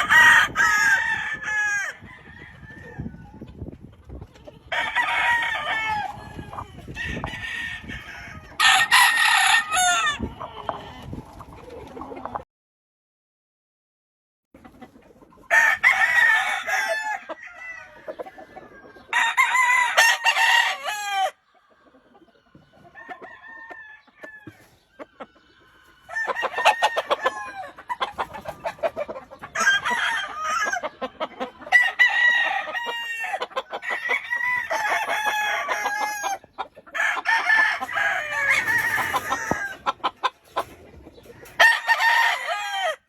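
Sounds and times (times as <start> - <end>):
roosters crowing: 0.0 - 3.5, 4.6 - 11.2, 15.5 - 43.0
chickens clucking: 0.0 - 12.4, 14.6 - 43.0.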